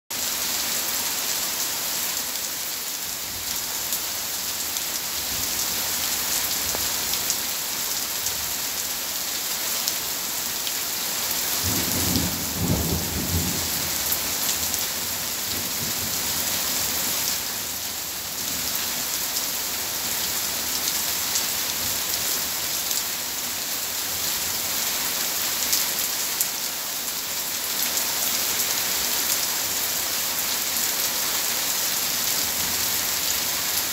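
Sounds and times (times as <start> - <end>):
heavy rain pouring on paving: 0.1 - 33.9.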